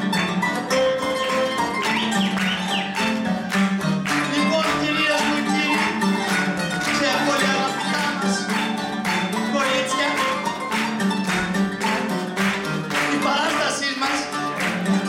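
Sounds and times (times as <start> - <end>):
guitar: 0.0 - 15.0.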